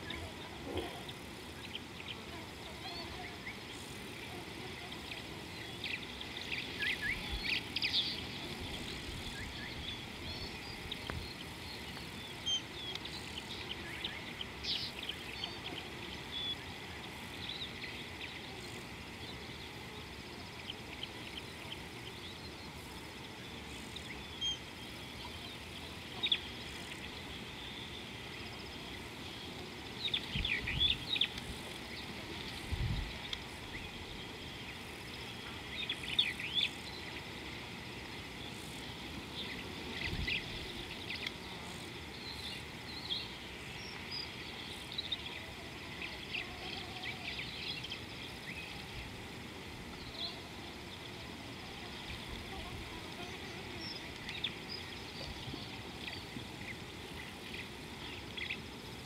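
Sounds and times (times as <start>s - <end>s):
birds chirping: 0.0s - 59.0s
outdoor hiss: 0.0s - 59.0s.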